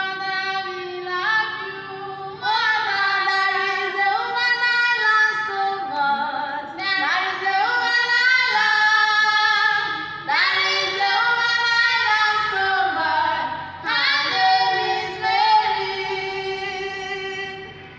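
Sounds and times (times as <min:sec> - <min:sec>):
two women singing together: 0:00.0 - 0:17.9.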